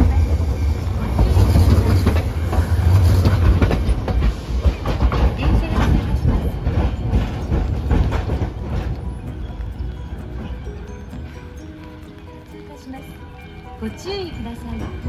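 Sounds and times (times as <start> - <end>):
tram rumbling on rails: 0.0 - 15.0
wheels clicking over track: 0.0 - 15.0.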